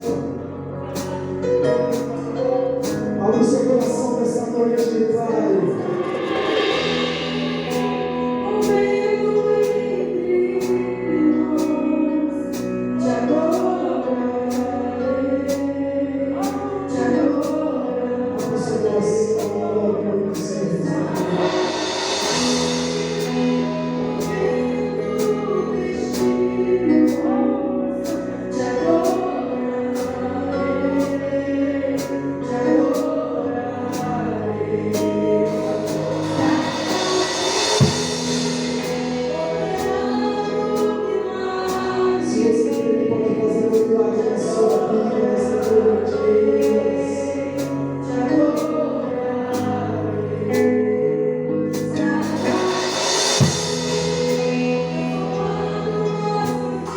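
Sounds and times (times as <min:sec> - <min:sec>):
instrumental accompaniment: 0:00.0 - 0:56.9
choir singing: 0:03.0 - 0:56.9.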